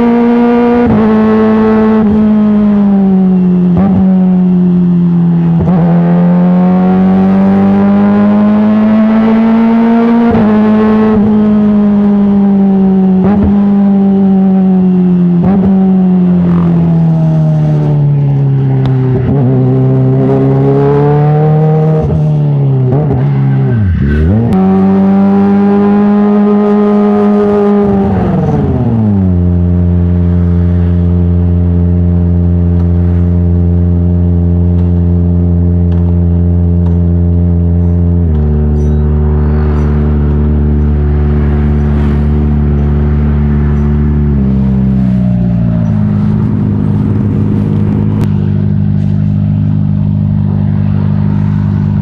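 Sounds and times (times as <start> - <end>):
motorcycle engine revving high: 0.0 - 52.0.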